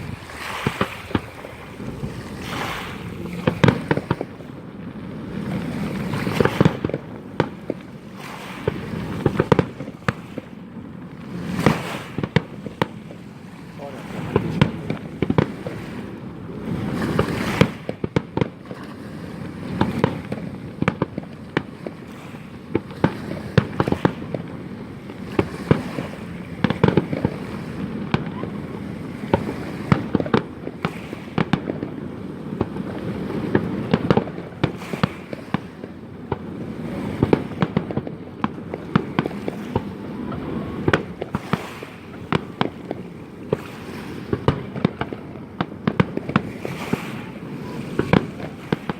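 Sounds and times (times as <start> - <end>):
fireworks bangs and cracks: 0.0 - 48.9
rumble of firework bursts: 0.0 - 48.9.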